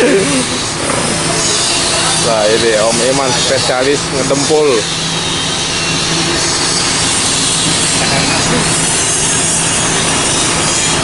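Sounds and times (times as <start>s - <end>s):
constant low hum: 0.0s - 11.0s
sanding body filler: 0.3s - 11.0s.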